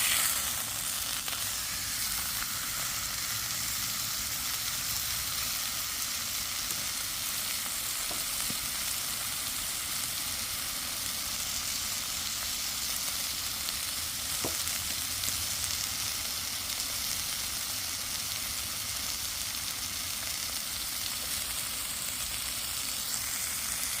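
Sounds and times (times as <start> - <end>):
steaks sizzling: 0.0 - 24.0.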